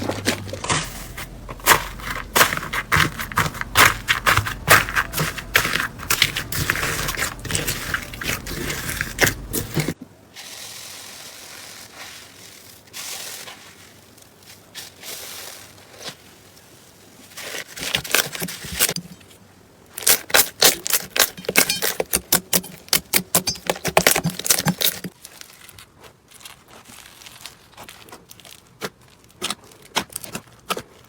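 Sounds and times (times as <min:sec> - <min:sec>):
crunchy slime crackling: 0:00.0 - 0:16.5, 0:19.9 - 0:31.0.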